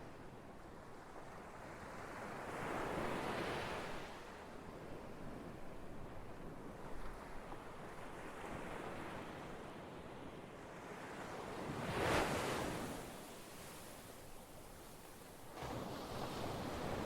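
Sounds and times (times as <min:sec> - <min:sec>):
ocean waves on a shore: 0:00.0 - 0:17.0.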